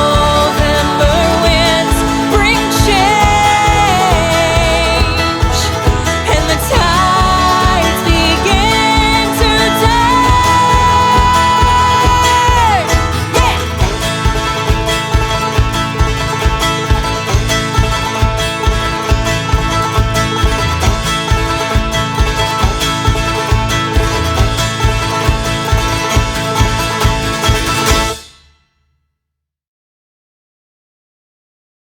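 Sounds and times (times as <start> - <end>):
rock band with banjo: 0.0 - 28.5.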